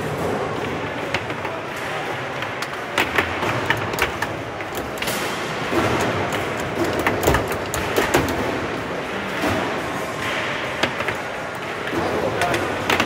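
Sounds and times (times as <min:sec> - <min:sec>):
foosball ball clacks: 0:00.0 - 0:13.0.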